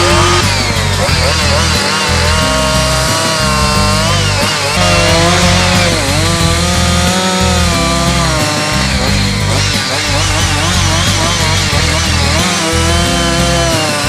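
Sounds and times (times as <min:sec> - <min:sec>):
background music with bass: 0:00.0 - 0:14.0
chainsaw cutting wood: 0:00.0 - 0:14.0.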